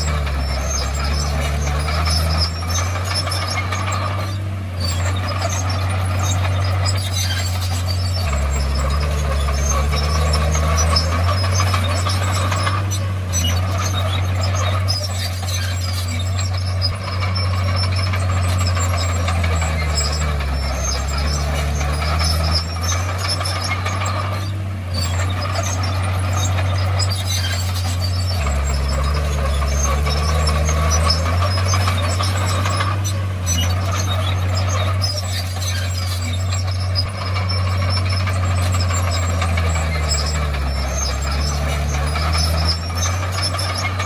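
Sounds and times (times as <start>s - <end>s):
bulldozer diesel engine running hard: 0.0s - 44.0s
steel tracks squeaking and clinking: 0.0s - 44.0s.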